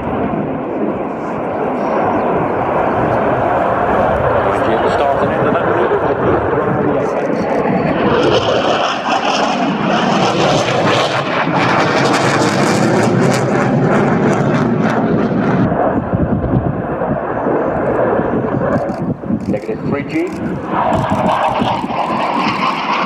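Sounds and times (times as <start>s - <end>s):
fighter jet flying past: 0.0s - 23.0s.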